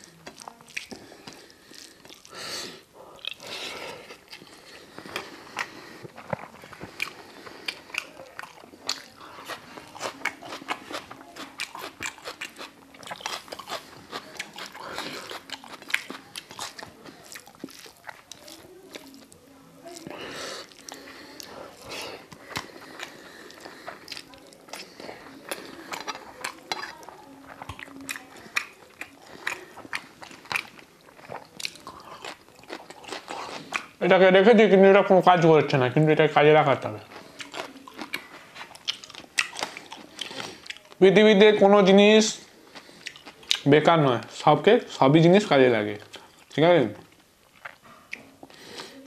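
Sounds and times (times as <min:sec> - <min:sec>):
person chewing crunchy food: 0:00.0 - 0:34.0, 0:36.8 - 0:41.0, 0:42.6 - 0:43.7, 0:46.1 - 0:49.0.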